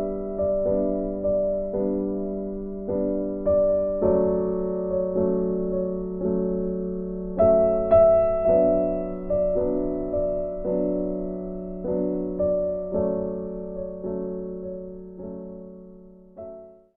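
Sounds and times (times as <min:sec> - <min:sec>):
soft piano chords: 0:00.0 - 0:16.9.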